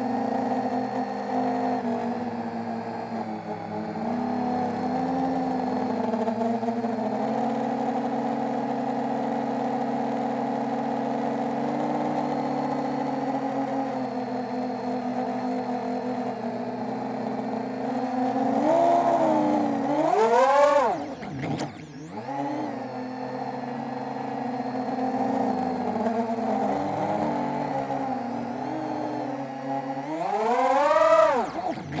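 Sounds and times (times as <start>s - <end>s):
drone motors whirring: 0.0s - 9.2s, 11.1s - 32.0s.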